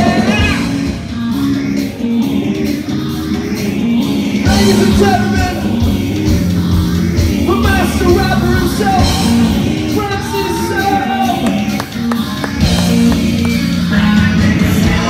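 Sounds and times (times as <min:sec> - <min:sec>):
person singing: 0:00.0 - 0:15.0
rock band playing: 0:00.0 - 0:15.0.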